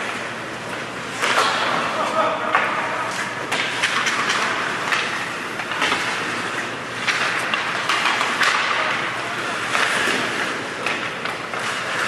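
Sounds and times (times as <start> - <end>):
hockey sticks and puck clacking: 0.0 - 12.0
skate blades scraping ice: 0.0 - 12.0.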